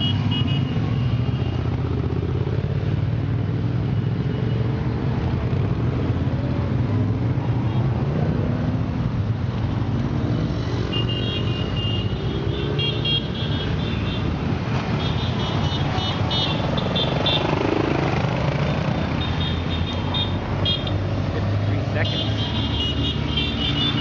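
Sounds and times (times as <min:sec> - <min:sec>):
motorcycle engines droning: 0:00.0 - 0:24.0.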